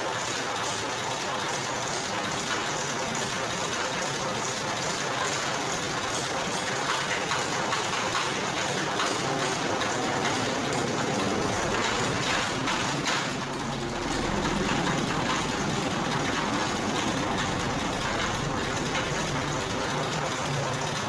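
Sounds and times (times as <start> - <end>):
sugarcane press running: 0.0 - 21.0.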